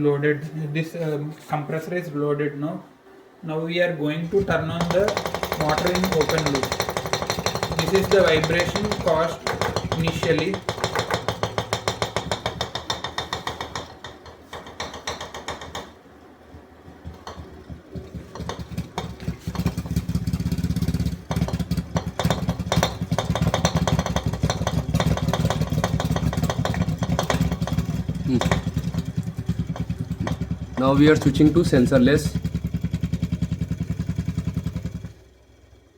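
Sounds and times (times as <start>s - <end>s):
refrigerator compressor rattling: 4.3s - 35.9s.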